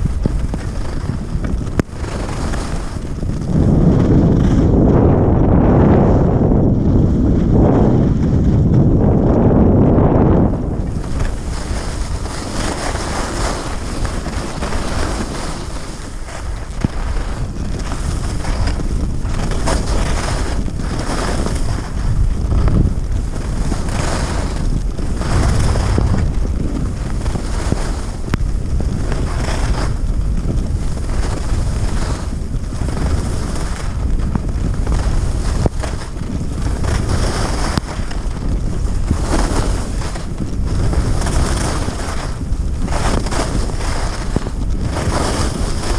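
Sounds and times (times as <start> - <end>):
skis scraping on snow: 0.0 - 45.9
wind rushing over microphone: 0.0 - 45.9.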